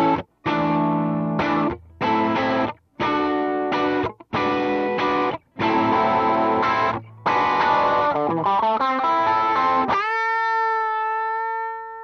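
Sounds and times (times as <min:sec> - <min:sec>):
overdriven electric guitar chords: 0:00.0 - 0:12.0.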